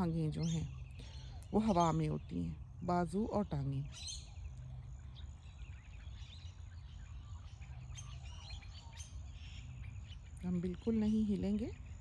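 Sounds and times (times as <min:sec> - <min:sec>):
low steady rumble: 0:00.0 - 0:12.0
small birds chirping: 0:00.0 - 0:12.0.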